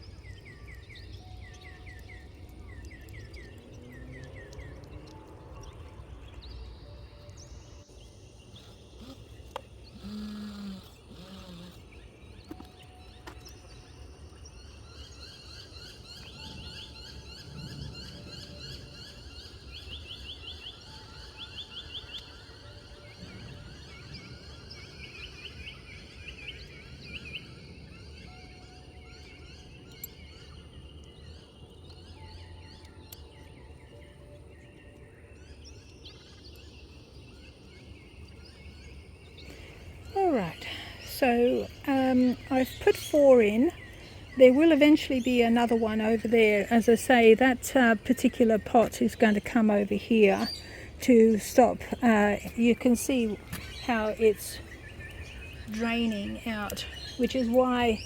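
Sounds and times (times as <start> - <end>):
birds chirping in trills: 0.0 - 58.0.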